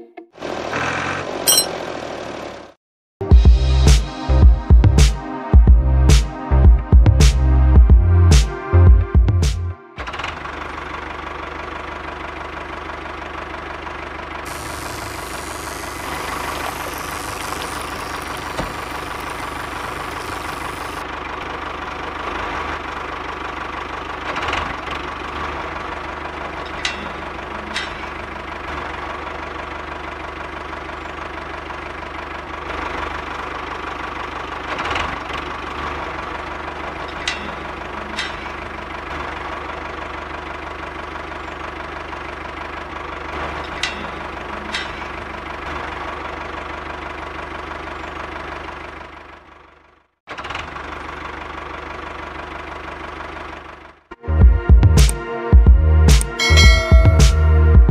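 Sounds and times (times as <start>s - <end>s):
engine idling with knocking beat: 3.3s - 50.0s, 50.6s - 57.9s.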